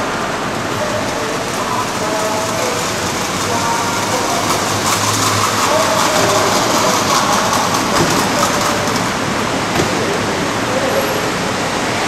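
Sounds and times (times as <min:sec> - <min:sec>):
crowd voices: 0:00.0 - 0:12.0
steady rushing noise: 0:00.0 - 0:12.0.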